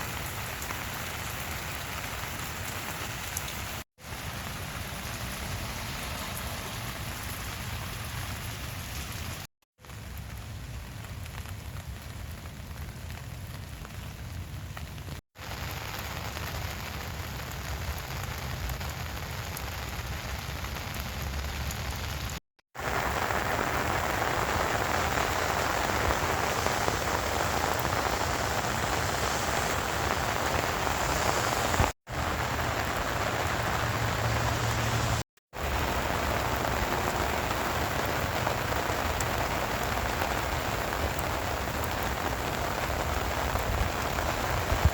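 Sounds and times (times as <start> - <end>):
rain pattering on ground: 0.0 - 44.9.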